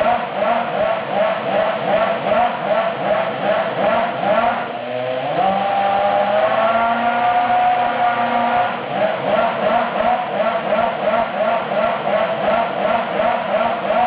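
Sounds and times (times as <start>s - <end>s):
racing engine revving: 0.0s - 14.0s.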